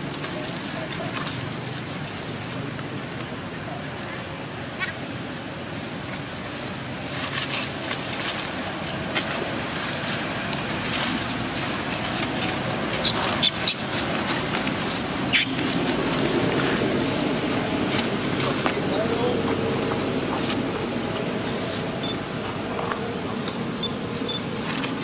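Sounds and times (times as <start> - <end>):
monkeys scuffling in dry leaves: 0.0 - 25.0.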